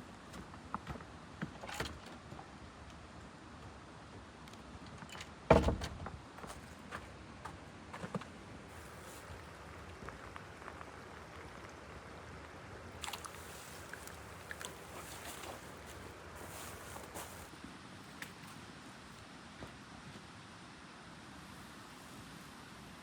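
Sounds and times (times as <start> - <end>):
faint background noise: 0.0 - 23.0.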